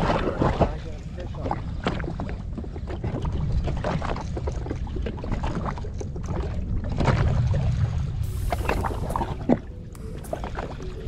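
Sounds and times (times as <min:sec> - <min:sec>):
water slapping against hull: 0:00.0 - 0:11.0.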